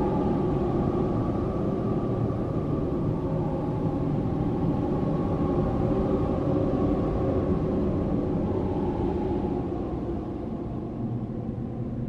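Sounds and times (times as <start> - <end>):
low rush of wind: 0.0 - 12.0.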